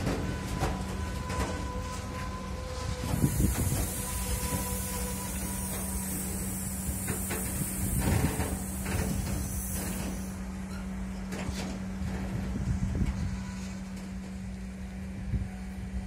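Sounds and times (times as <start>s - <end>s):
train wheels clacking over rail joints: 0.0s - 14.6s
freight train rolling hiss: 0.0s - 16.0s.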